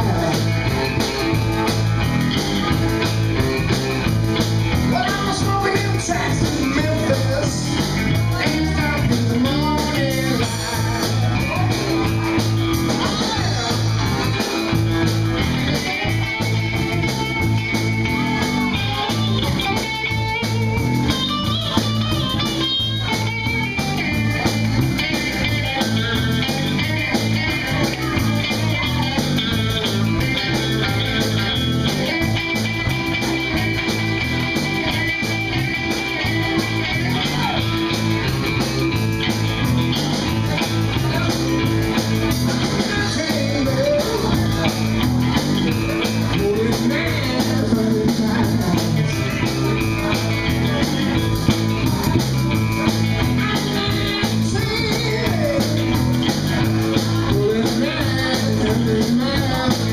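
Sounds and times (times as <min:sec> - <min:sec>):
drum kit beat: 0:00.0 - 0:59.9
electric bass: 0:00.0 - 0:59.9
electric guitar lead: 0:00.0 - 0:59.9.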